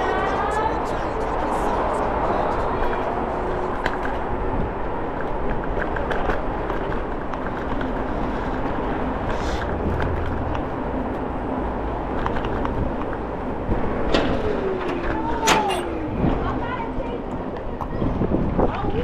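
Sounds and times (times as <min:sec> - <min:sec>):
scooter rolling on concrete: 0:01.8 - 0:19.0
wind noise: 0:01.8 - 0:19.0.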